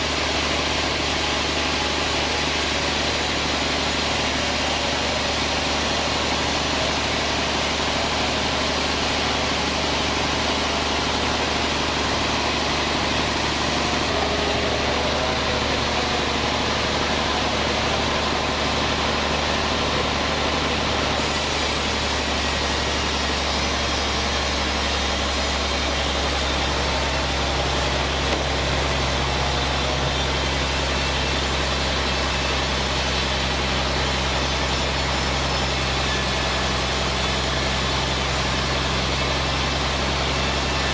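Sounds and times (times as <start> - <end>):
band saw machinery drone: 0.0 - 40.9.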